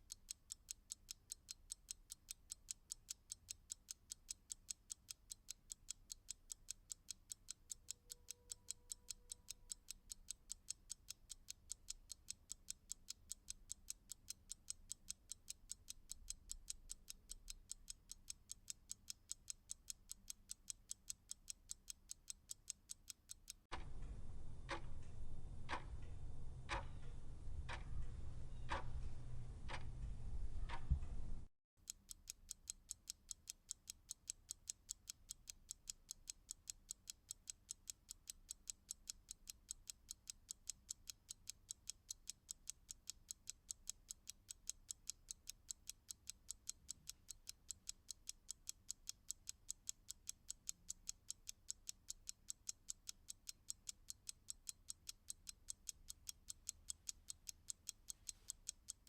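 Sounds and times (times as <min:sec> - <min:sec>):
clock ticking quickly: 0:00.0 - 0:23.9, 0:26.7 - 0:26.9, 0:28.6 - 0:29.0, 0:31.8 - 0:59.0
clock ticking slowly: 0:00.0 - 0:31.1, 0:31.8 - 0:59.0.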